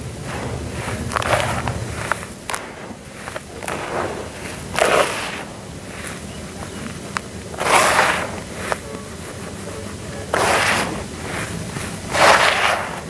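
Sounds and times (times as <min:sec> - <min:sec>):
soil pouring into plastic tub: 0:00.0 - 0:08.9, 0:10.0 - 0:13.0.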